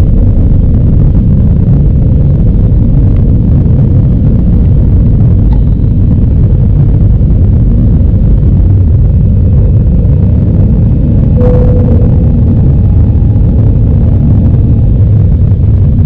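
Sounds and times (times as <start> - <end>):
air rushing around fuselage: 0.0 - 16.0
jet engines rumbling: 0.0 - 16.0.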